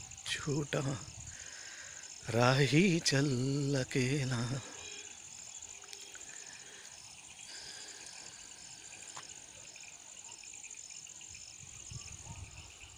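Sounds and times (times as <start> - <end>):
insect chirping: 0.0 - 12.9
insects trilling: 0.0 - 12.9.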